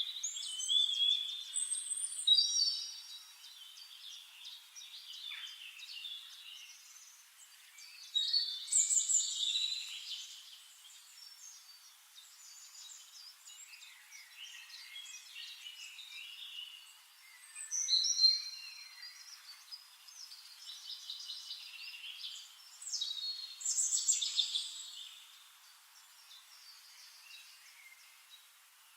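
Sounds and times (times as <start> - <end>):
birds chirping and singing: 0.0 - 28.5.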